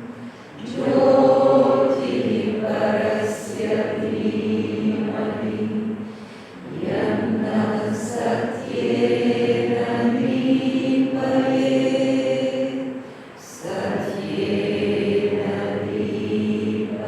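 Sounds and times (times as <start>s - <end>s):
voices chanting held notes: 0.0s - 17.0s.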